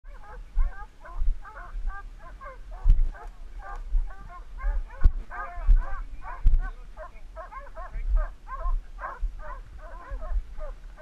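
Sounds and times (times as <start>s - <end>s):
hounds baying: 0.1s - 11.0s
low thumps on microphone: 0.4s - 11.0s.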